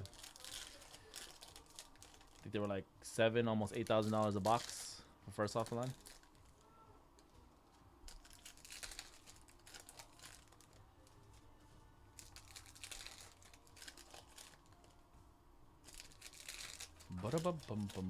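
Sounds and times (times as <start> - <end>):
wrappers and cards crinkling: 0.0 - 2.8, 3.6 - 15.0, 15.8 - 18.0.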